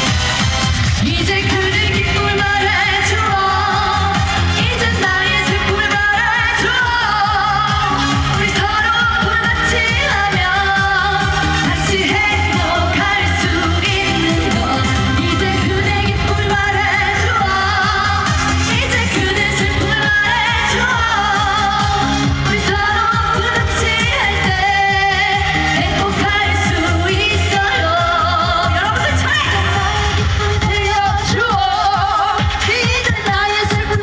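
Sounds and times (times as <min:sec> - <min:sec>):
loud backing track: 0:00.0 - 0:34.0
woman singing with vibrato: 0:00.9 - 0:34.0.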